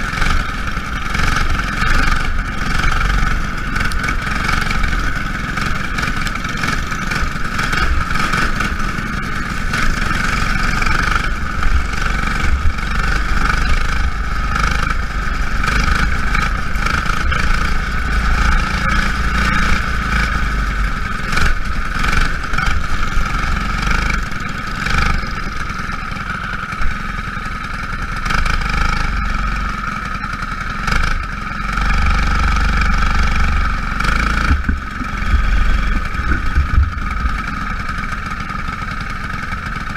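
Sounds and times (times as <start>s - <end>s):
racing car engines droning: 0.0s - 39.9s.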